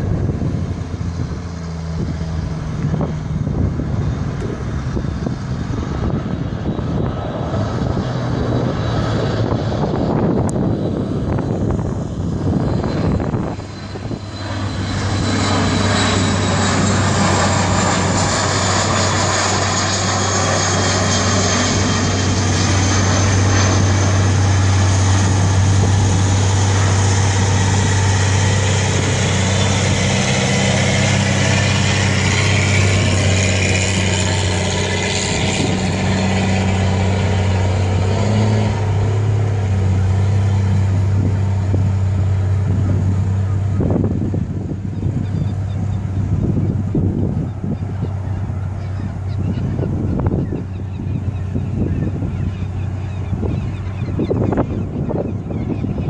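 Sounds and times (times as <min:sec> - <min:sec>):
jet turbofans whining: 0:00.0 - 0:56.0.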